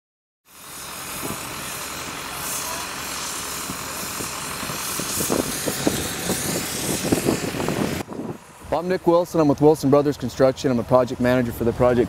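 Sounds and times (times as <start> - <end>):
construction machinery engines: 0.5 - 12.0.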